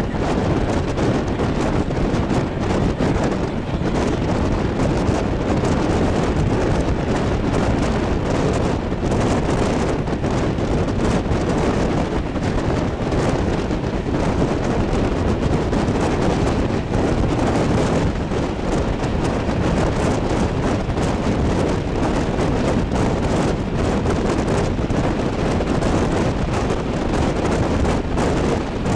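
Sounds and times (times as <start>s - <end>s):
train rumbling: 0.0s - 28.9s
wind buffeting microphone: 0.0s - 28.9s.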